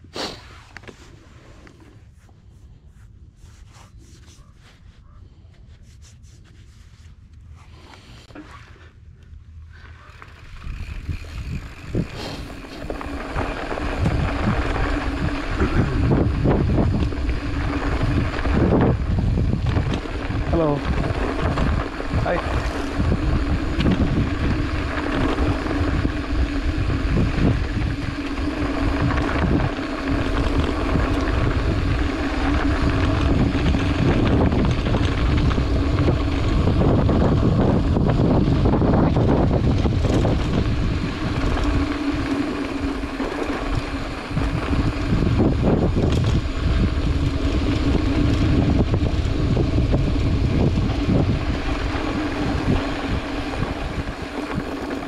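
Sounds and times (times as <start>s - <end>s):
bike tyre rumble on dirt: 0.0s - 55.0s
steady hum: 5.7s - 55.0s
wind buffeting microphone: 10.4s - 55.0s.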